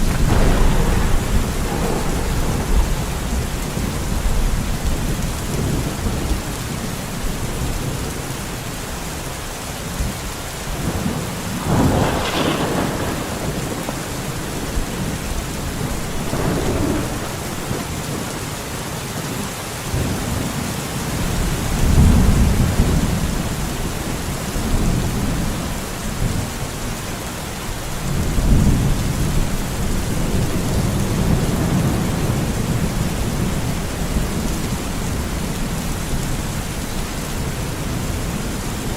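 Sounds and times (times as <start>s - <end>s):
rolling thunder: 0.0s - 8.2s, 10.0s - 18.6s, 21.2s - 26.5s, 28.0s - 38.9s
steady rain in forest: 0.0s - 38.9s.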